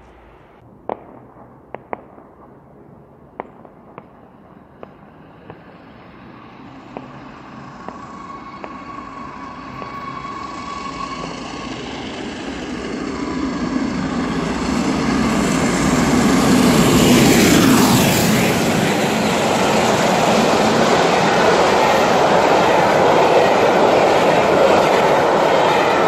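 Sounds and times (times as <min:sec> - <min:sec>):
steam locomotive passing: 0:04.2 - 0:26.0.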